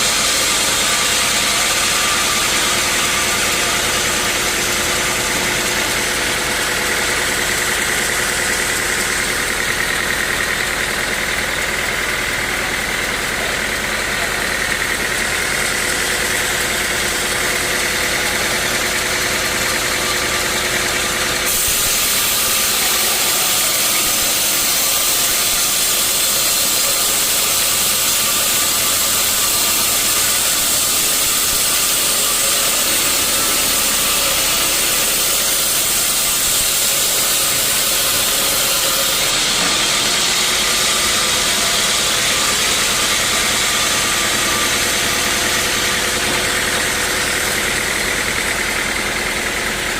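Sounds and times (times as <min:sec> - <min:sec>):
saw blade cutting log: 0:00.0 - 0:13.6, 0:14.2 - 0:49.9
sawmill saw motor hum: 0:00.0 - 0:49.9.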